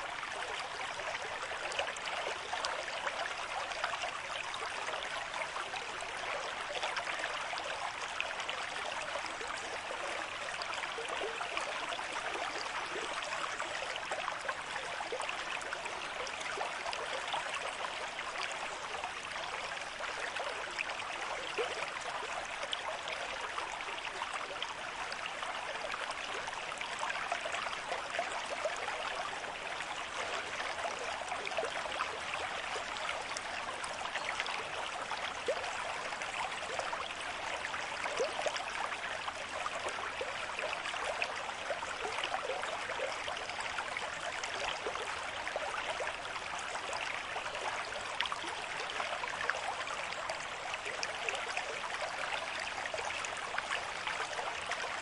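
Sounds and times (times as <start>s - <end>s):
river stream flowing: 0.0s - 55.0s.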